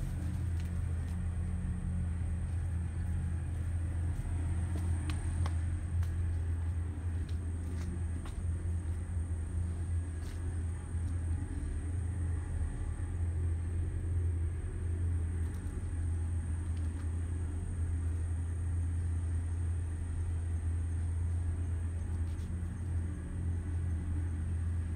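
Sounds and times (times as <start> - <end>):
low engine rumble: 0.0 - 24.9.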